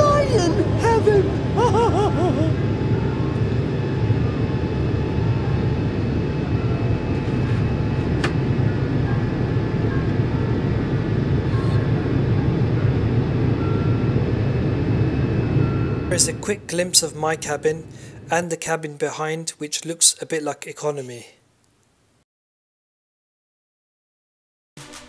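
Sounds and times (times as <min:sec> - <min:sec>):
airplane cabin noise: 0:00.0 - 0:20.2.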